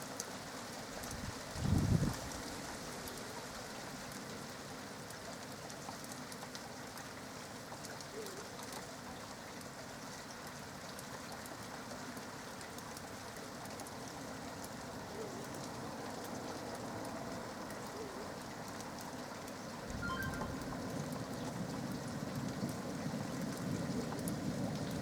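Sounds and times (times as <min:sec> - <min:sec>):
raindrop ticks: 0:00.0 - 0:25.0
steady rain falling: 0:00.0 - 0:25.0.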